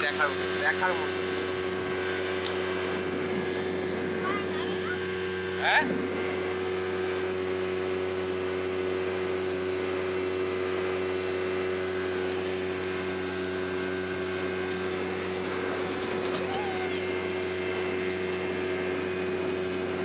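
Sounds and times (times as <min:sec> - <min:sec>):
outboard engine humming: 0:00.0 - 0:20.0.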